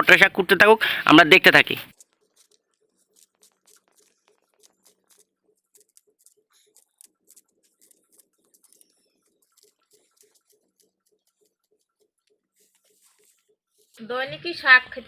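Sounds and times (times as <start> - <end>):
pea greens being cut: 1.4 - 14.0.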